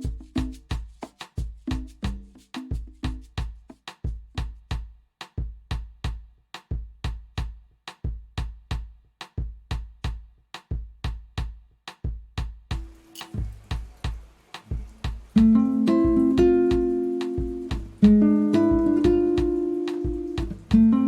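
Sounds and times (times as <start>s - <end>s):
kick drum and percussion groove: 0.0s - 21.0s.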